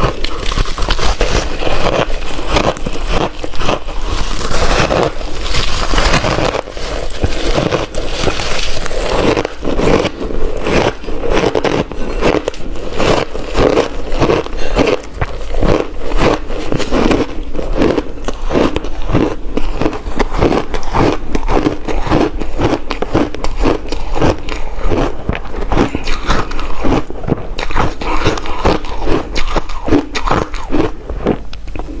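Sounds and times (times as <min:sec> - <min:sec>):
person crunching ice: 0:00.0 - 0:32.0.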